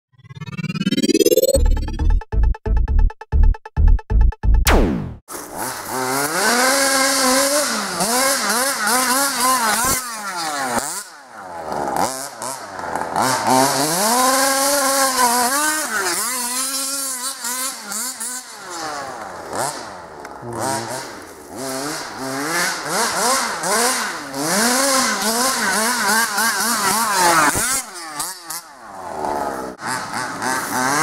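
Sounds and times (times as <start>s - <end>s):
two-stroke engine revving: 5.4s - 31.0s.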